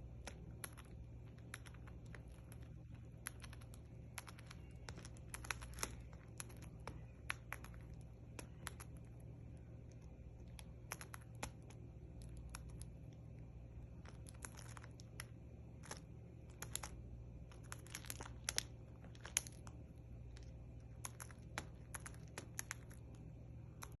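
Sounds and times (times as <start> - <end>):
bird beak cracking seeds: 0.1 - 9.2, 9.8 - 13.0, 13.9 - 24.0.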